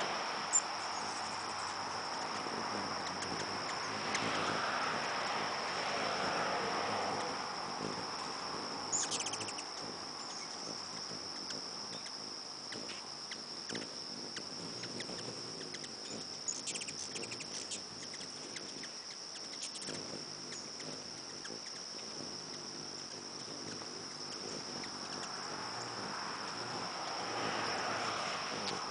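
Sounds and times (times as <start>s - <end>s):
high-pitched insect drone: 0.0s - 28.9s
hummingbirds chittering: 0.0s - 28.9s.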